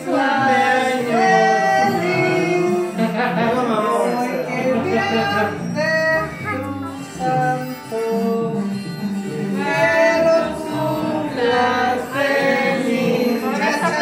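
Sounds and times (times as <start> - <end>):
people singing together: 0.0 - 14.0.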